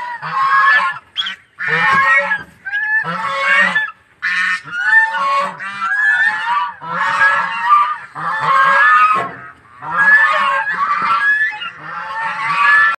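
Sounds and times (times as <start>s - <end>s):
goose honking: 0.0s - 12.9s.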